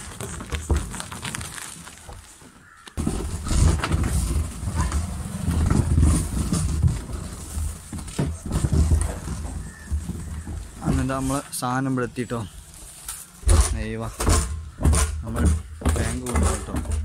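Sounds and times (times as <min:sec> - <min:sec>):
plastic drum rolling on ground: 0:00.0 - 0:11.2, 0:13.5 - 0:17.0.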